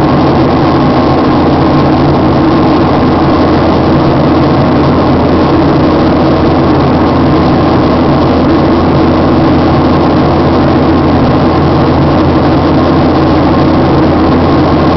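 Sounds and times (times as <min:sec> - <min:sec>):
aircraft engines droning: 0:00.0 - 0:14.9.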